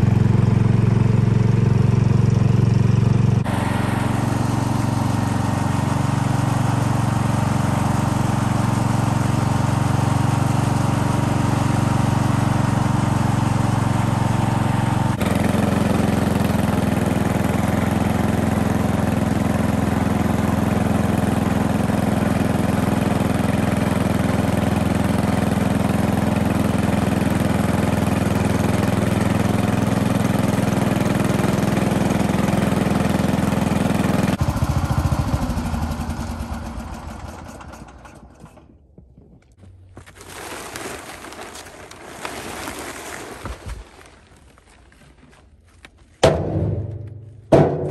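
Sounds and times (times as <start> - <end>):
garden tractor engine running: 0.0 - 47.9.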